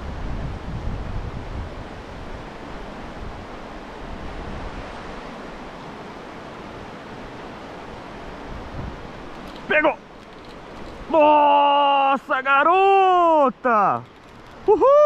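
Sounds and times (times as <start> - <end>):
water rushing over rocks: 1.7 - 15.0.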